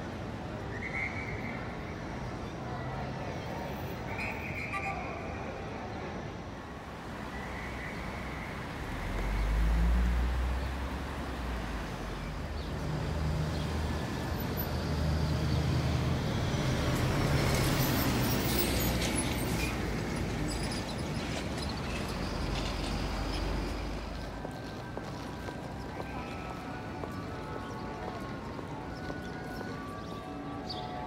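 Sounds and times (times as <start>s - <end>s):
vehicles passing: 5.5s - 31.0s.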